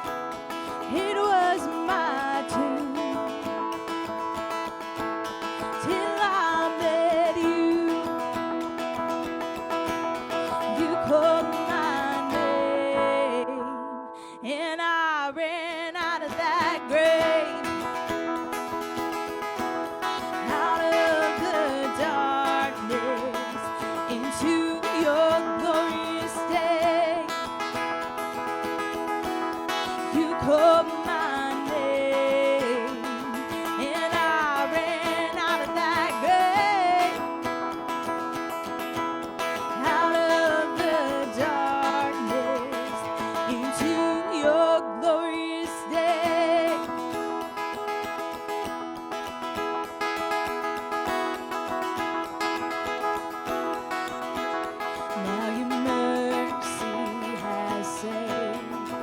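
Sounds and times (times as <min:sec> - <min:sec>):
person singing: 0:00.0 - 0:48.6, 0:49.2 - 0:59.0
acoustic guitar: 0:00.0 - 0:59.0.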